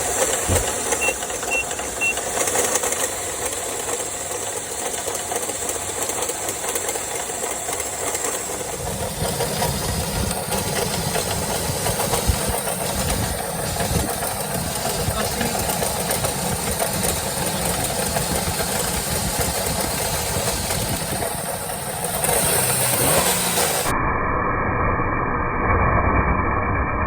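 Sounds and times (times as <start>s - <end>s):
car engine knocking: 0.0s - 23.9s.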